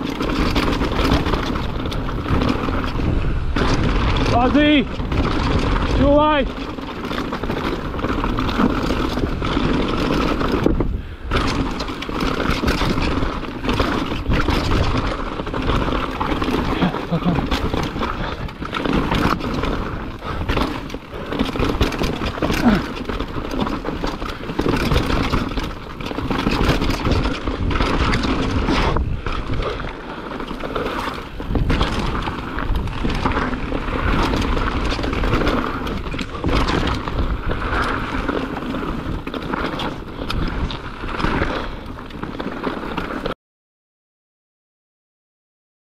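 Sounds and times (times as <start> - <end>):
bike knocks and rattles: 0.0 - 43.4.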